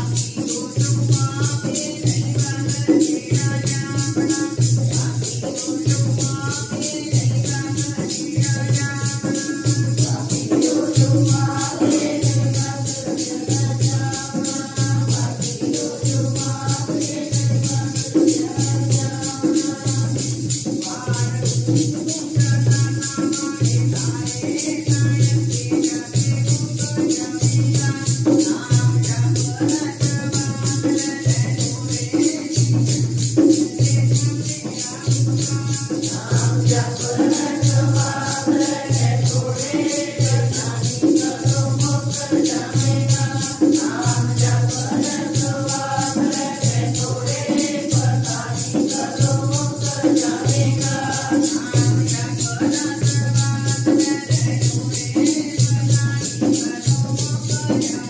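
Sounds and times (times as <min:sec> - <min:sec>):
group singing a hymn: 0:00.0 - 0:58.0
jingling shaker percussion: 0:00.0 - 0:58.0.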